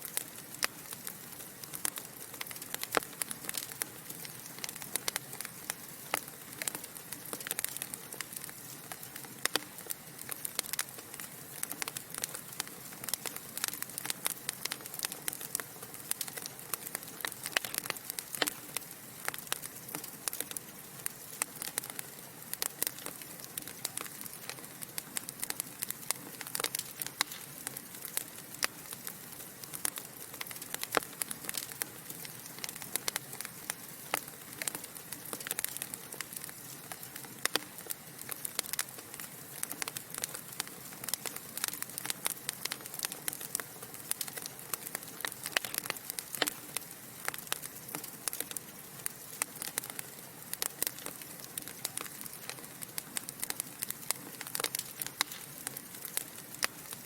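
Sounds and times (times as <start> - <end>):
burning logs popping and snapping: 0.0 - 57.0
fire soft hiss: 0.0 - 57.0.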